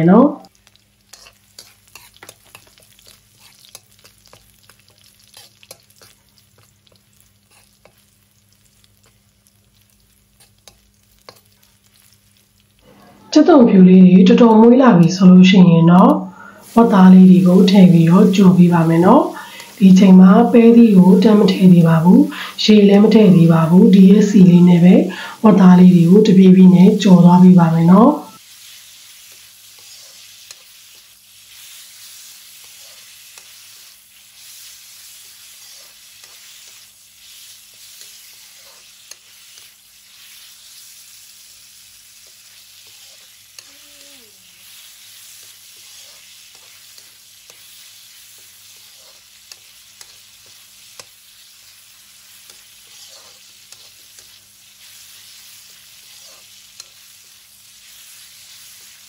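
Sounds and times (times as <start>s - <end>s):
pork sizzling in hot oil: 0.0s - 13.5s, 14.2s - 59.0s.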